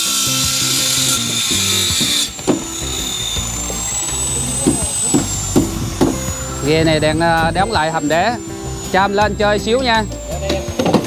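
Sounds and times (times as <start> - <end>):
background music: 0.0 - 11.0
power tool hissing on timber: 0.0 - 11.0.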